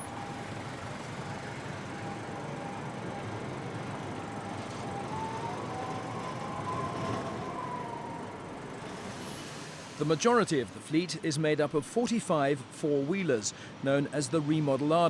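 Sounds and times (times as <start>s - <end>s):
tram running on track: 0.0s - 14.8s.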